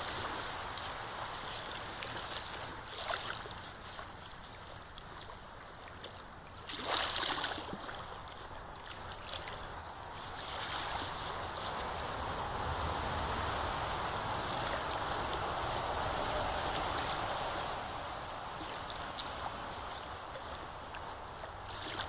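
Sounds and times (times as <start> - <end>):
water rushing: 0.0 - 22.0
wind: 0.0 - 22.0.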